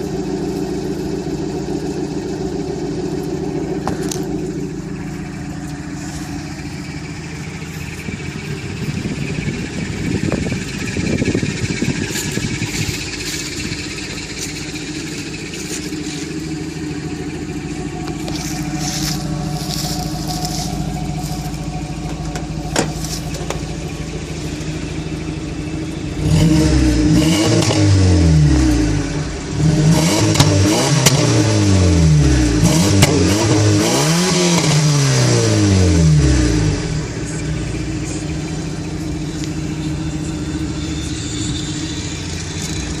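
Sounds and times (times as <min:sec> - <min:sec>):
pickup truck engine revving: 0:00.0 - 0:43.0.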